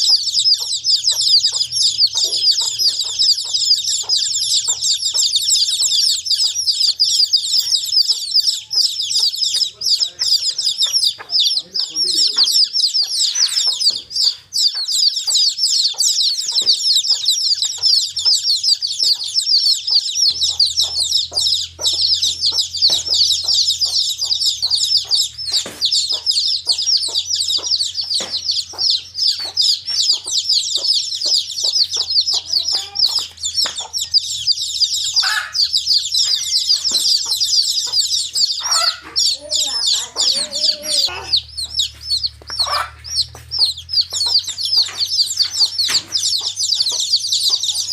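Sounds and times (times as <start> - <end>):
baby chicks chirping: 0.0 - 47.9.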